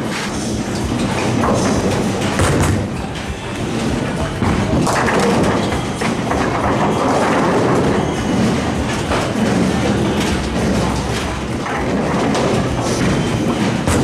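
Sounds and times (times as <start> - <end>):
bowling balls rolling on lanes: 0.0 - 14.0
bowling pins clattering: 0.0 - 14.0.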